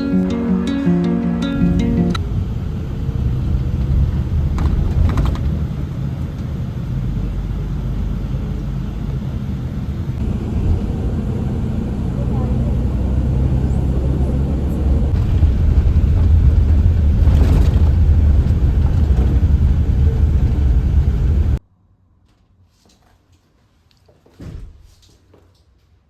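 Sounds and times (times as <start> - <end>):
vehicle rumbling: 0.0 - 21.6.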